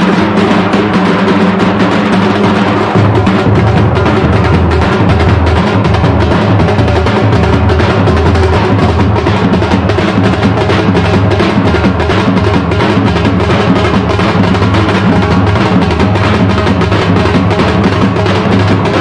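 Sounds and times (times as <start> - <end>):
loud music with fast drumming: 0.0 - 19.0.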